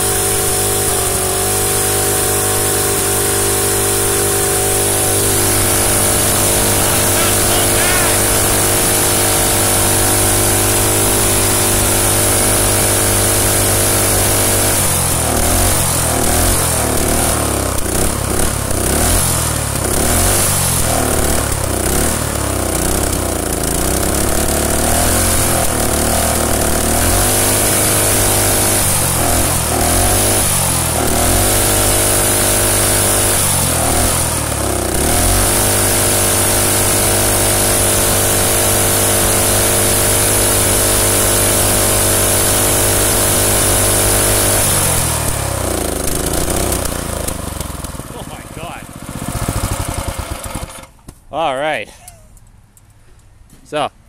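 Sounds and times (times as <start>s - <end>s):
small engine running unevenly: 0.0s - 51.1s.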